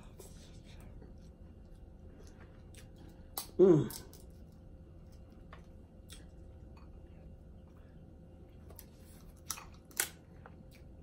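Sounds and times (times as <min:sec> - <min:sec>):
chewing: 0:00.2 - 0:11.0.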